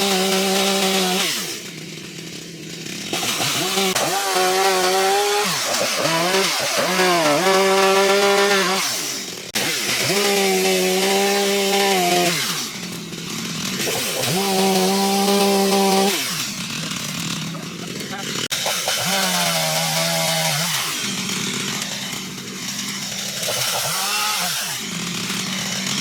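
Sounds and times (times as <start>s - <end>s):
power tool motor revving: 0.0s - 26.0s.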